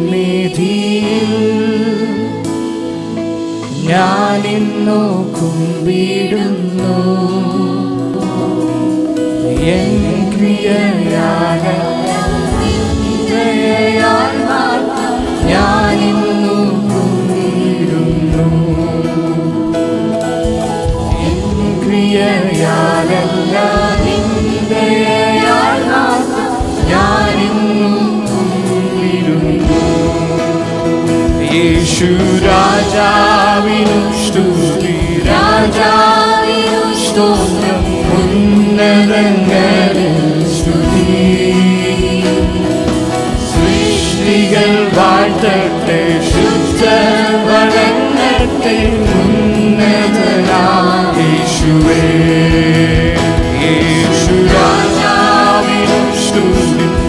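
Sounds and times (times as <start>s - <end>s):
musical accompaniment: 0.0s - 57.0s
worship song singing: 0.0s - 57.0s.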